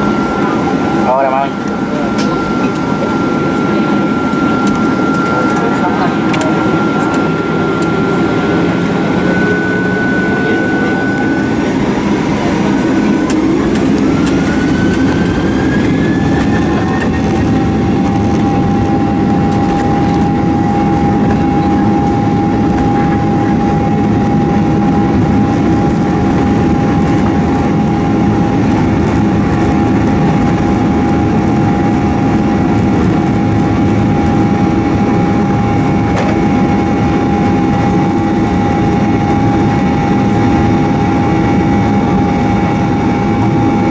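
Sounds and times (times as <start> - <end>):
jet engines whining: 0.0 - 43.9
loud steady rumble: 0.0 - 43.9.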